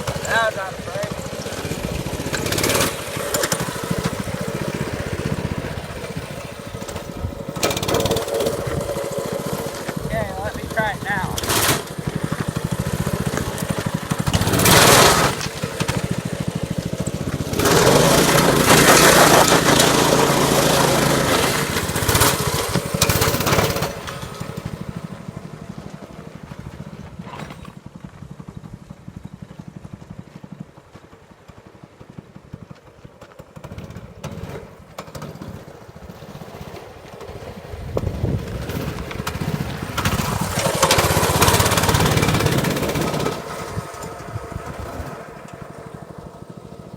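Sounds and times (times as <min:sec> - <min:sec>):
dirt bike engine revving: 0:00.0 - 0:30.2, 0:33.6 - 0:46.9.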